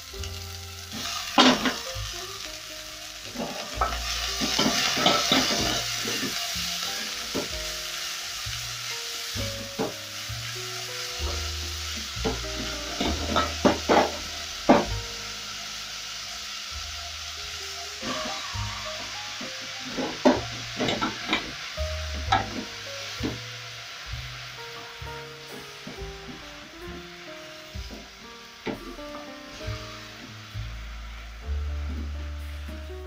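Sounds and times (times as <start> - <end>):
vegetables sizzling in oil: 0.0 - 33.0.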